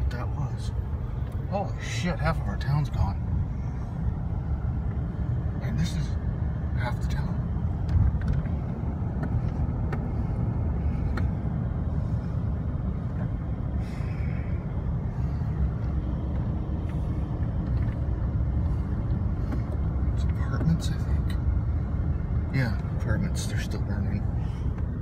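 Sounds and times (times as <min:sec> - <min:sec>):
road and engine rumble in car: 0:00.0 - 0:25.0.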